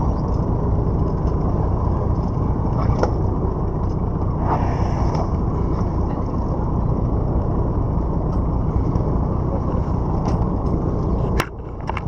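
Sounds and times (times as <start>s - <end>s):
boat engine rumble: 0.0s - 12.0s
water noise: 0.0s - 12.0s
wind: 0.0s - 12.0s.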